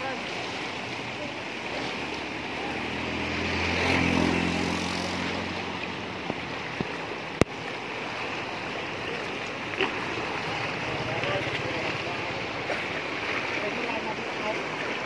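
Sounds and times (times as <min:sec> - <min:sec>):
floodwater rushing: 0:00.0 - 0:15.0
low engine hum: 0:00.0 - 0:15.0.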